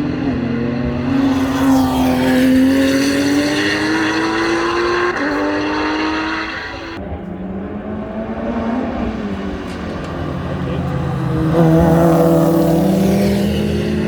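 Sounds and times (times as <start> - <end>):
race car accelerating: 0.0 - 14.0.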